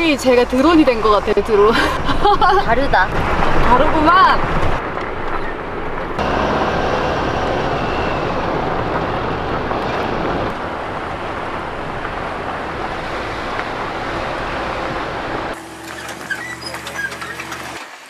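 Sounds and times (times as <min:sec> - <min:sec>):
wind noise: 0:00.0 - 0:15.6
car engine driving: 0:00.0 - 0:18.0
tyres on dirt: 0:00.0 - 0:18.0.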